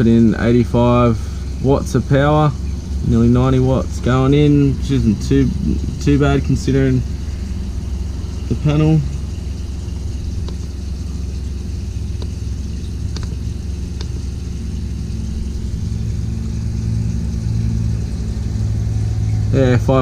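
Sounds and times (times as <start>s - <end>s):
water pump humming: 0.0s - 20.0s.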